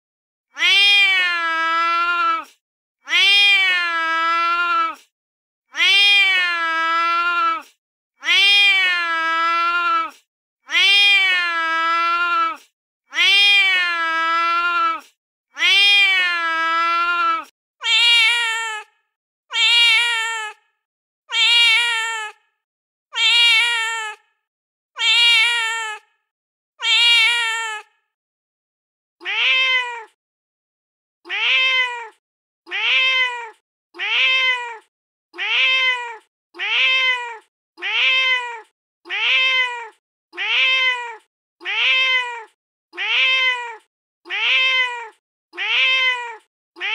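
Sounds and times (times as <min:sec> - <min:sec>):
recorded cat meows: 0:00.5 - 0:05.1, 0:05.7 - 0:20.7, 0:21.3 - 0:22.5, 0:23.1 - 0:24.3, 0:25.0 - 0:26.2, 0:26.8 - 0:28.0, 0:29.2 - 0:30.2, 0:31.3 - 0:46.9.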